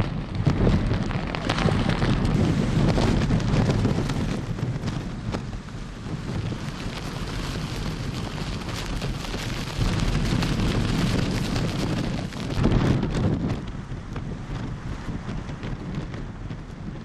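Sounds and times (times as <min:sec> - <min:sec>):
heavy rain: 0:00.0 - 0:17.0
wind buffeting microphone: 0:00.0 - 0:17.0.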